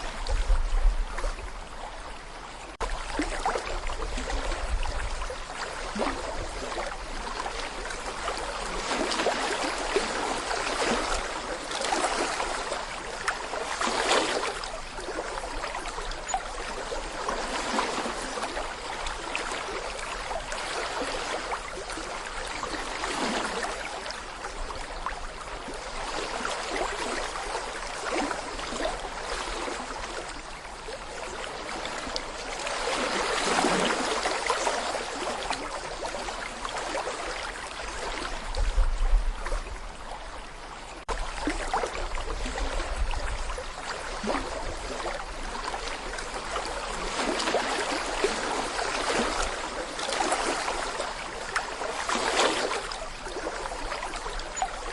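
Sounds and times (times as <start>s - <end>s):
brook babbling over stones: 0.0s - 54.9s.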